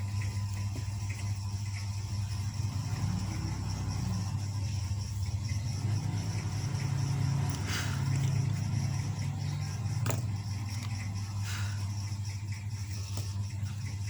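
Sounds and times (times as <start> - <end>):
low motor drone: 0.0 - 14.0.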